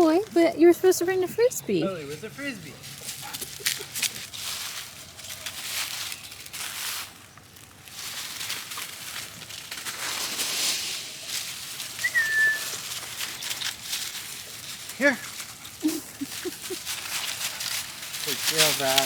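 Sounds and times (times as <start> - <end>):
dry leaves crunching underfoot: 1.9 - 19.0.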